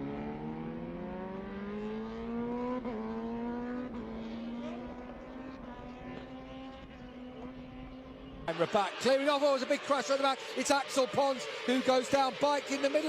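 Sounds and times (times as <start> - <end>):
racing motorcycle engines: 0.0 - 13.0.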